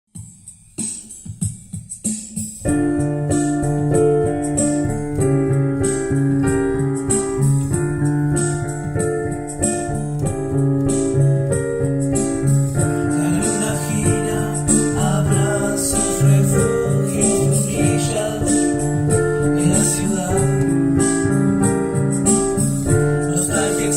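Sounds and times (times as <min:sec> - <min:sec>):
electric piano chords: 0:01.1 - 0:23.9.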